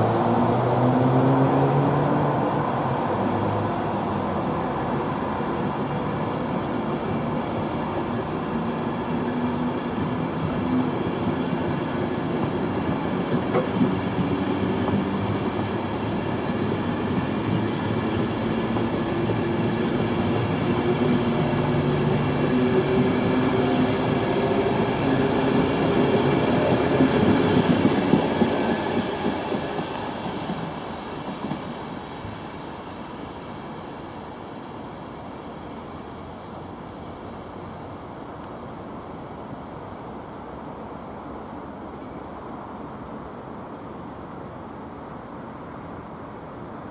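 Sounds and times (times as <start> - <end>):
train passing: 0.0 - 46.9.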